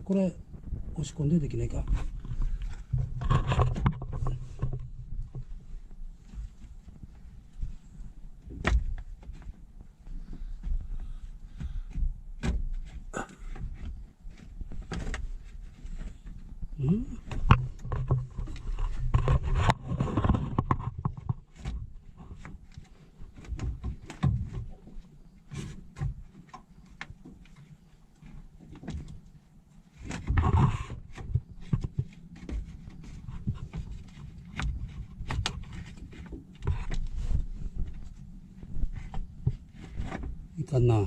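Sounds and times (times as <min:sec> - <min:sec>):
clicks knocks and scraping of parts: 0:01.6 - 0:40.8.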